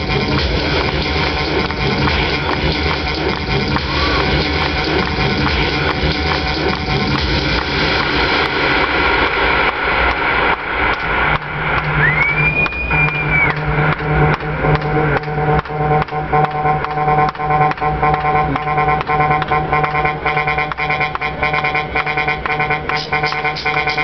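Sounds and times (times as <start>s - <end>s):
low bass tone: 0.0s - 24.0s
sustained synth tones: 0.0s - 24.0s
synth sweep: 0.0s - 24.0s
techno percussive beat: 0.0s - 24.0s.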